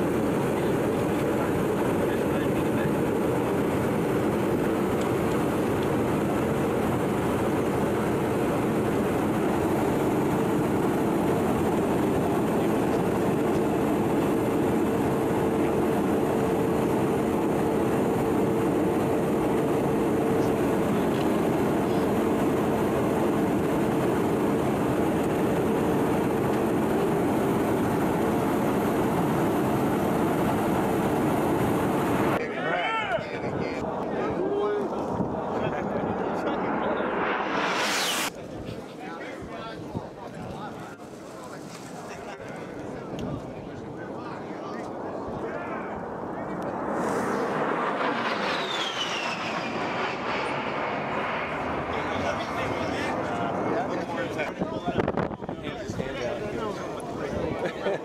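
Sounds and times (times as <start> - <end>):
jet engine drone in flight: 0.0 - 58.0.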